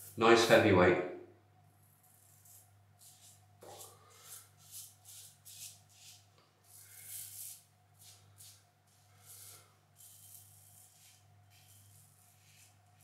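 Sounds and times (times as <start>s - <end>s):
razor scraping stubble: 1.9s - 13.0s.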